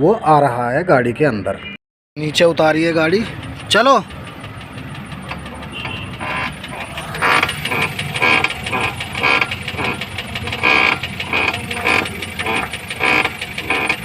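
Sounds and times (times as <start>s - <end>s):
car suspension creaking and clicking: 2.3s - 14.0s.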